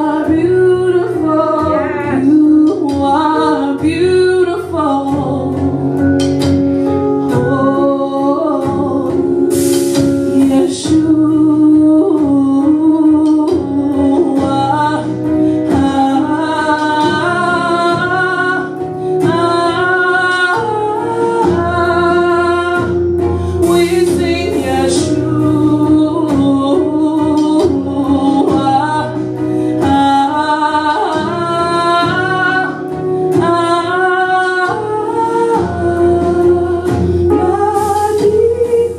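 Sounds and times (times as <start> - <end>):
sustained instrumental backing: 0.0 - 38.9
woman singing into microphone: 0.0 - 38.9.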